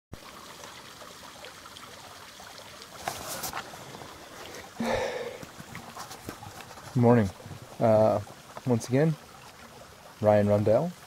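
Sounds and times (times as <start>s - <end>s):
stream trickling: 0.1s - 11.0s.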